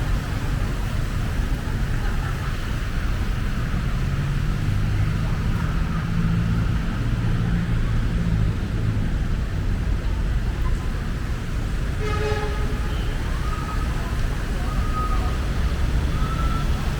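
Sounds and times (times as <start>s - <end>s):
street traffic noise: 0.0s - 16.9s.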